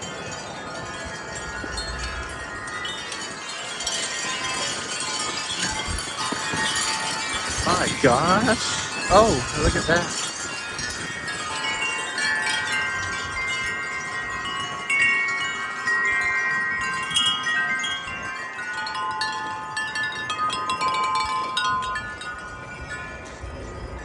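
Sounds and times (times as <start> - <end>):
wind chimes clanging: 0.0 - 24.0.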